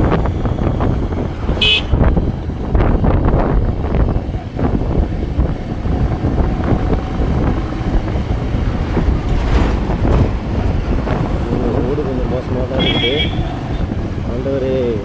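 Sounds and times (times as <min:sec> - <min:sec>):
motorcycle engine running: 0:00.0 - 0:15.0
wind rumble on microphone: 0:00.0 - 0:15.0.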